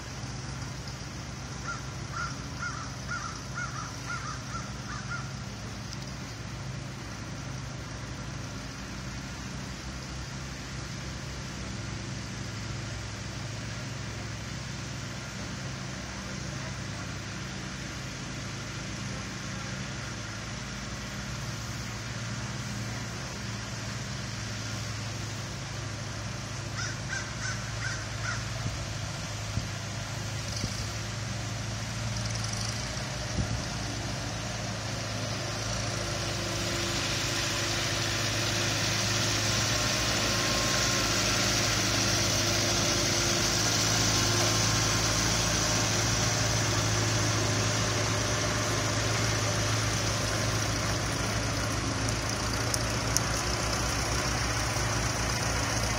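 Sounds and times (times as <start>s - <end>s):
tractor engine humming: 0.0s - 55.9s.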